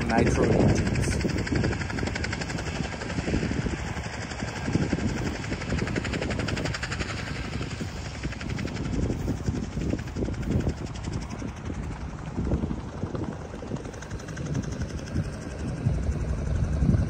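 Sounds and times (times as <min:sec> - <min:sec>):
fast pulsing buzz: 0:00.0 - 0:17.0
wind buffeting microphone: 0:00.0 - 0:17.0.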